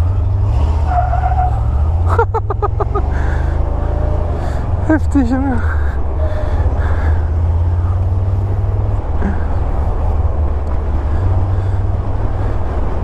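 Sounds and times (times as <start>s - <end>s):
engine droning while driving: 0.0s - 13.0s
wind and road noise: 0.0s - 13.0s.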